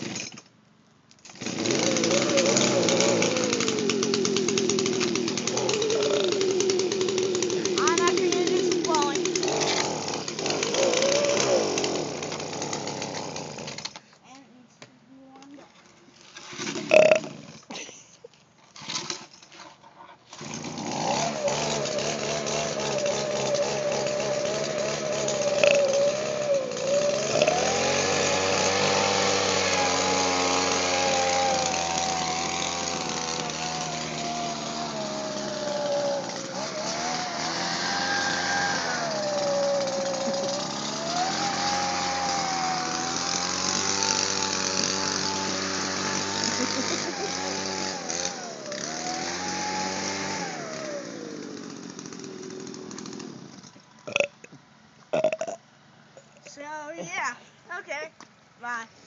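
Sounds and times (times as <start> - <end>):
leaf blower engine: 1.2 - 14.0, 16.5 - 18.0, 20.3 - 55.4.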